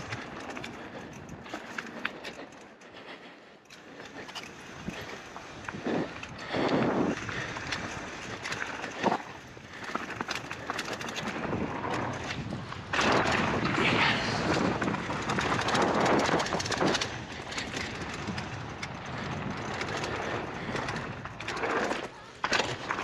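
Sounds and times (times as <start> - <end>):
bike rattling: 0.0 - 23.0
bike tyres rolling on dirt: 0.0 - 23.0.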